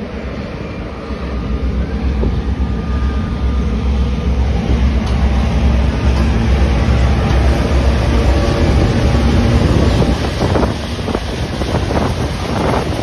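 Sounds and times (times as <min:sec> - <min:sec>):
diesel locomotive engines rumbling: 0:00.0 - 0:13.0
wind on microphone: 0:01.7 - 0:03.7, 0:04.5 - 0:13.0.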